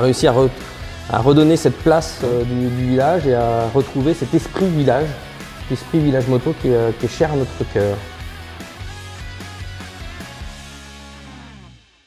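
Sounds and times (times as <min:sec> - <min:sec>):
background music held chord: 0:00.0 - 0:12.0.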